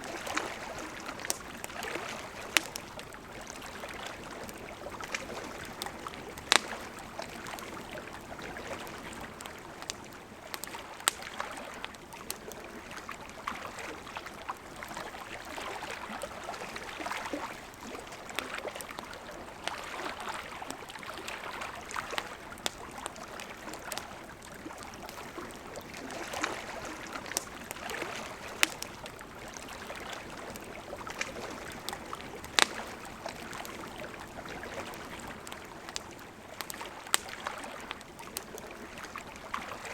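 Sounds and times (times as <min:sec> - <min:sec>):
campfire crackling and popping: 0:00.0 - 0:39.9
river water flowing: 0:00.0 - 0:39.9.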